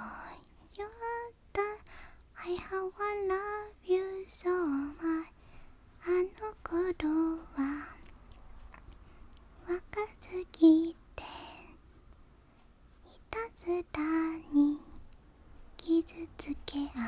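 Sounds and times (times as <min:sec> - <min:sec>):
woman singing quietly: 0:00.0 - 0:12.0, 0:12.9 - 0:17.0.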